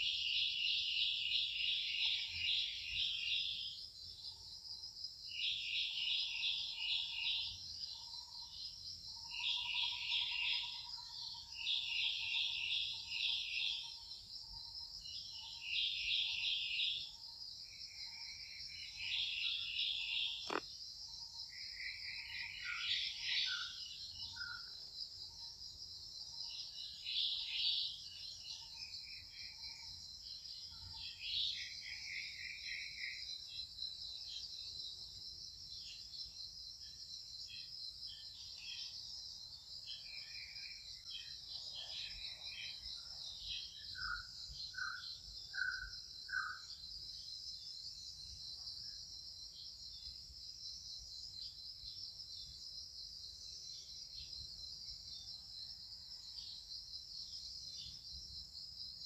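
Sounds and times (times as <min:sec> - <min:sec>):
high insect chorus droning: 0:00.0 - 0:59.0.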